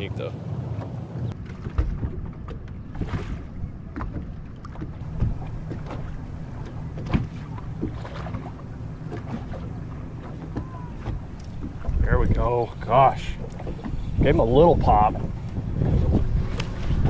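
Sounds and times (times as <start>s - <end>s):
waves slapping boat hull: 0.0s - 17.0s
wind buffeting microphone: 0.0s - 17.0s.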